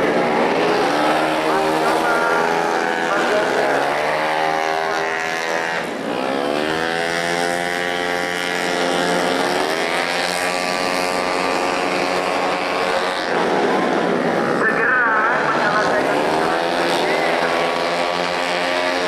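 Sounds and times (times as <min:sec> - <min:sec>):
racing scooter engines: 0:00.0 - 0:19.0.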